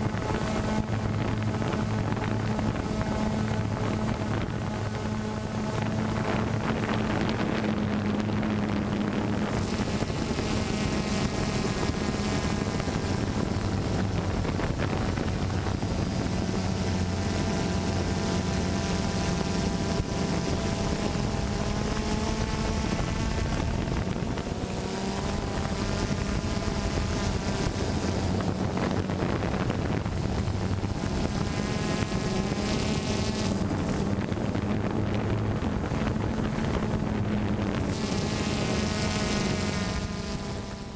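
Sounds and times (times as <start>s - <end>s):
drone propellers buzzing: 0.0s - 40.9s
wind rushing over microphone: 0.0s - 40.9s.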